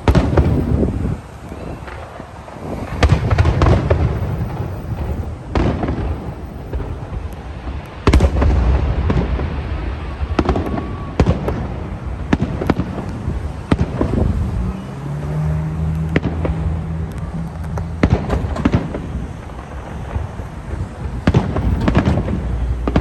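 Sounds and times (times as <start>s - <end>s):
fireworks bursting with bangs: 0.0s - 23.0s.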